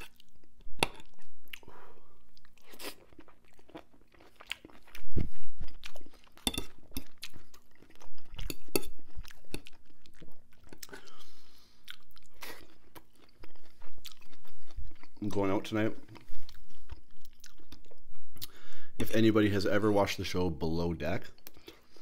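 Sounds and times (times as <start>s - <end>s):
man chewing food: 0.0s - 18.9s, 21.3s - 22.0s.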